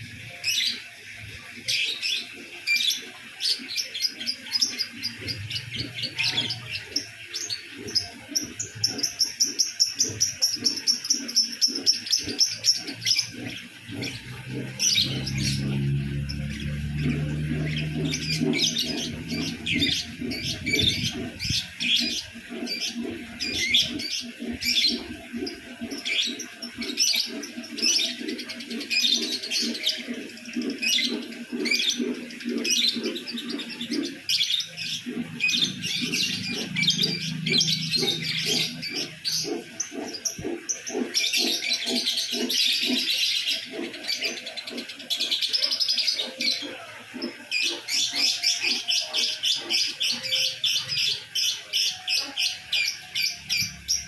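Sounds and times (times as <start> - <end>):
lovebird chirping song: 0.0 - 54.0.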